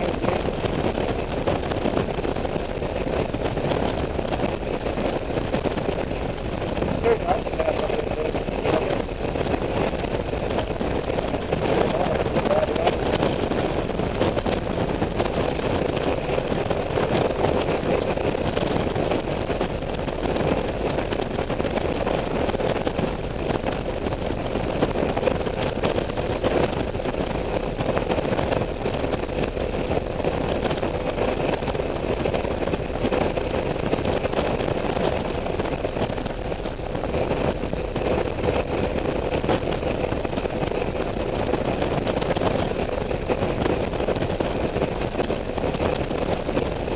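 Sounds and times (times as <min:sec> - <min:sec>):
steady hum: 0:00.0 - 0:46.9
wind noise: 0:00.0 - 0:46.9.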